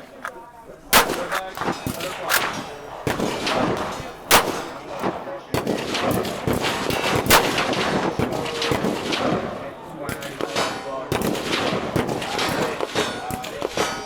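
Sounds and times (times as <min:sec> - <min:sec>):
gunshots with echo: 0:00.0 - 0:14.0.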